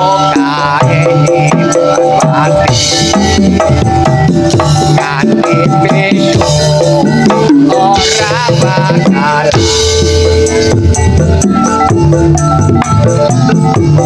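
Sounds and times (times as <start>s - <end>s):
drums and percussion beat: 0.0s - 14.0s
keyboard melody: 0.0s - 14.0s.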